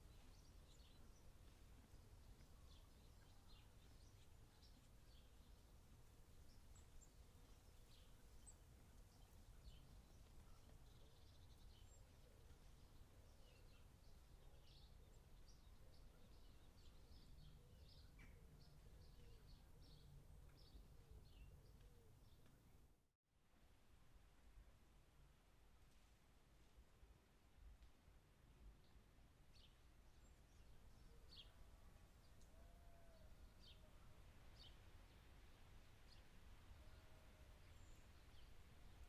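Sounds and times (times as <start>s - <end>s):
faint birds chirping: 0.0s - 23.0s, 28.7s - 39.0s.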